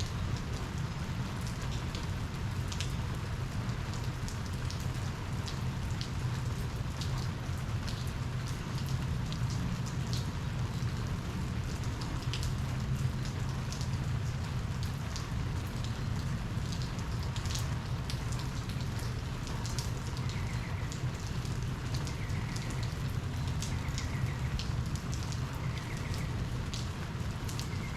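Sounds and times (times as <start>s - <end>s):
heavy rain: 0.0s - 27.9s
raindrops ticking close by: 0.0s - 27.9s.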